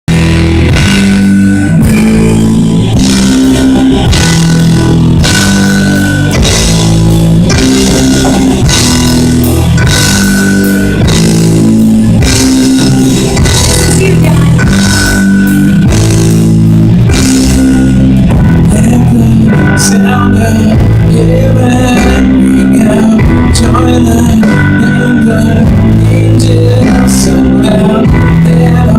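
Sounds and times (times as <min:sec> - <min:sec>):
instrumental rock band music: 0:00.0 - 0:28.9.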